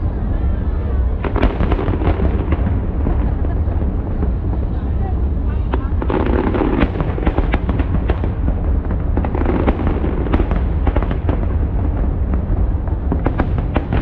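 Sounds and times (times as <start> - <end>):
continuous low rumble: 0.0 - 14.0
fireworks bangs and crackles: 0.0 - 14.0.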